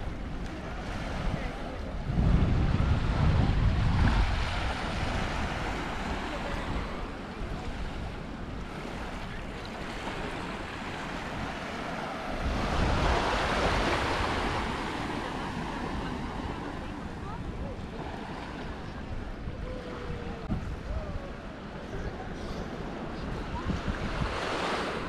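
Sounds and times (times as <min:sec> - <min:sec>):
wind rumble on microphone: 0:00.0 - 0:22.3, 0:23.1 - 0:25.0
sea waves washing onto beach: 0:00.0 - 0:25.0
wave breaking: 0:00.1 - 0:25.0.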